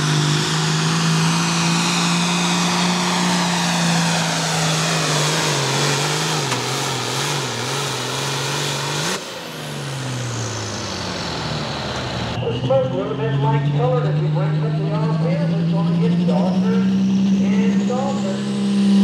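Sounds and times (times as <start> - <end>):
diesel tractor engine at full throttle: 0.0 - 19.0.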